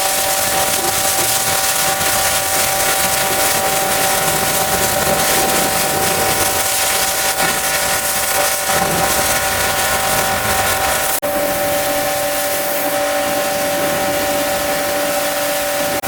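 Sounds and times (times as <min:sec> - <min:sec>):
machine whine: 0:00.0 - 0:16.0
water jet hissing: 0:00.0 - 0:16.0.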